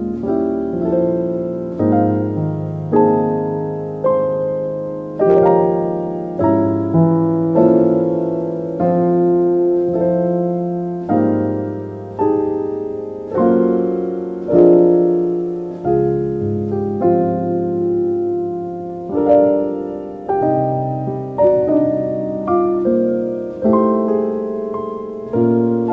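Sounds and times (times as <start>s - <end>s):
slow soft piano chords: 0.0s - 25.9s.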